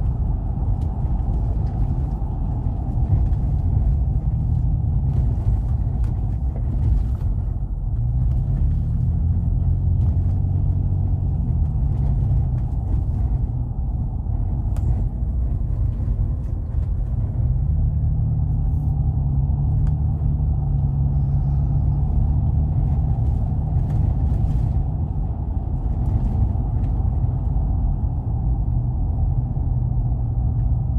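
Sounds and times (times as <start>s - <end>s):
vehicle rumbling on road: 0.0s - 30.9s.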